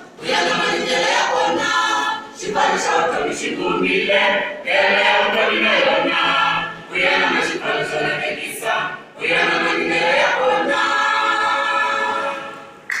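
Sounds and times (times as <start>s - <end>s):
choir singing a cappella: 0.0s - 13.0s.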